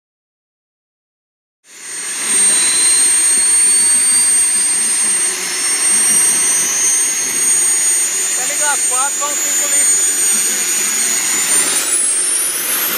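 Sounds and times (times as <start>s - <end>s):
model jet turbine whining: 1.7s - 12.9s.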